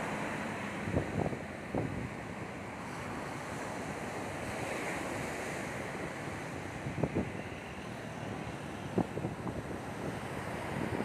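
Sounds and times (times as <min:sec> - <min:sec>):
surf breaking on sandy beach: 0:00.0 - 0:11.0
wind on microphone: 0:00.7 - 0:03.6, 0:04.4 - 0:07.5, 0:08.1 - 0:11.0.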